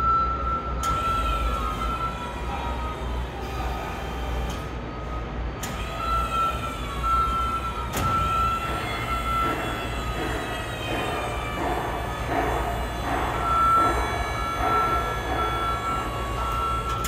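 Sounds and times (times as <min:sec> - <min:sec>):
electric motor and hydraulic whine: 0:00.0 - 0:17.0.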